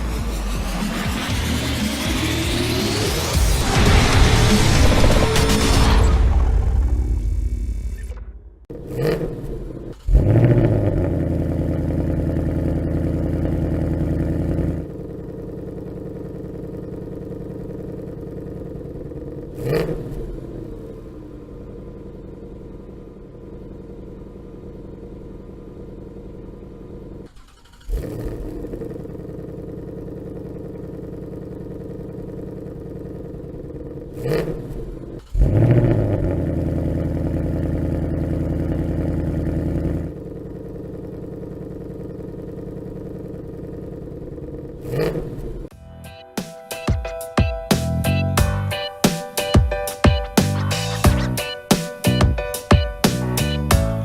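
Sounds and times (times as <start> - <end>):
car engine starting and idling: 0.0 - 46.3, 47.7 - 54.0.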